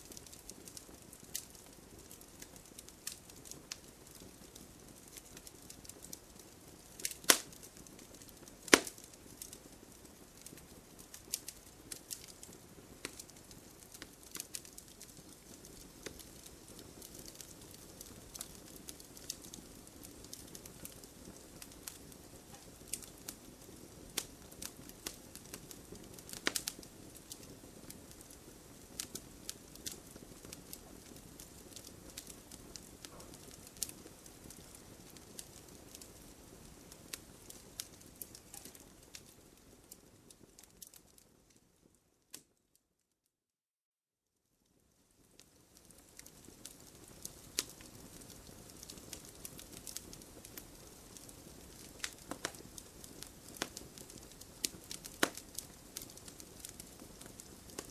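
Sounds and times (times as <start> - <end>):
wood fire crackling and popping: 0.0 - 42.6, 44.7 - 57.9.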